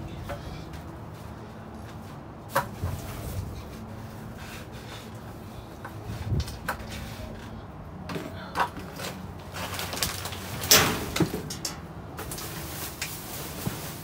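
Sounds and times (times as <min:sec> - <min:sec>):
plastic bags and cardboard rustling: 0:00.6 - 0:14.0.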